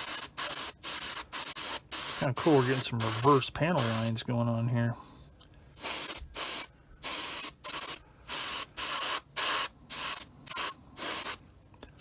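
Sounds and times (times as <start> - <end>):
airbrush spraying hiss: 0.0 - 4.1, 5.8 - 11.4.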